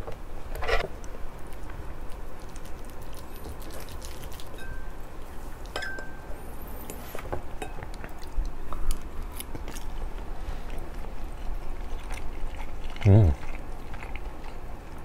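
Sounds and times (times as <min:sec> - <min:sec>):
chewing: 0:00.6 - 0:05.8, 0:06.8 - 0:15.0.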